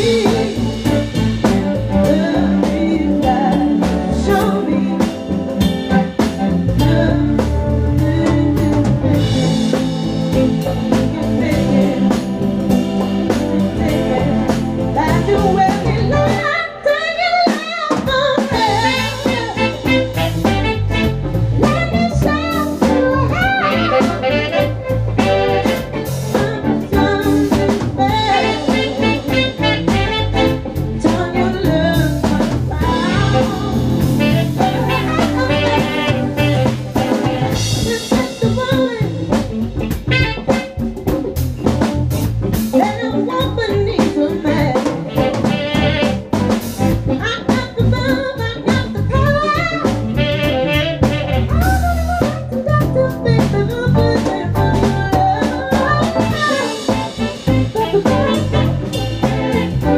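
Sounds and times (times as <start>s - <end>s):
electric bass: 0.0s - 16.9s, 18.1s - 59.9s
live band playing a groove: 0.0s - 59.9s.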